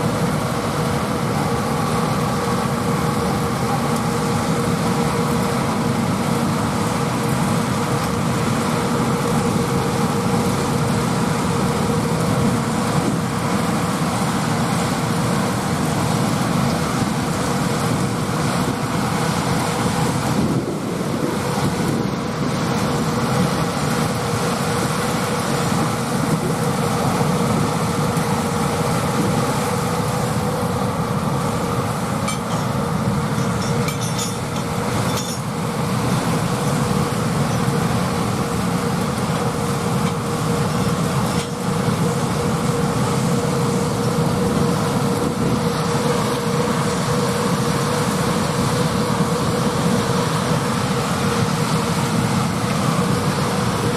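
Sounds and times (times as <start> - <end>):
steady mechanical whine: 0.0 - 53.9.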